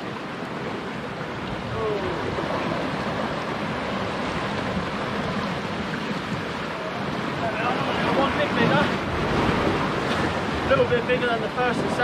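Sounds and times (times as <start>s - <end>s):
waves breaking against rocks: 0.0s - 12.0s.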